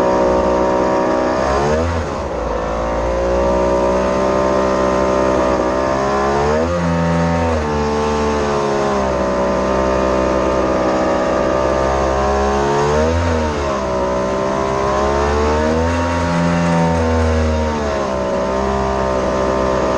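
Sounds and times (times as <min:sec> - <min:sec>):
jet boat engine running: 0:00.0 - 0:19.9.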